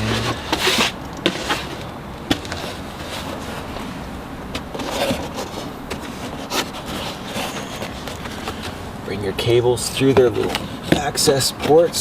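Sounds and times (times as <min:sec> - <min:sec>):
rubbing and scraping of parts: 0:00.0 - 0:08.9, 0:09.8 - 0:12.0.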